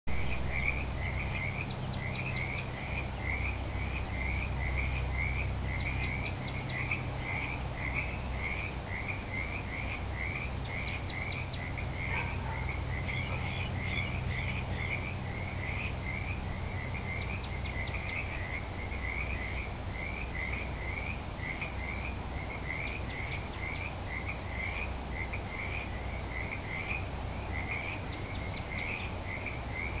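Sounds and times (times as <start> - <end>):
frogs croaking in chorus: 0.1 - 30.0
low steady hum: 0.1 - 30.0.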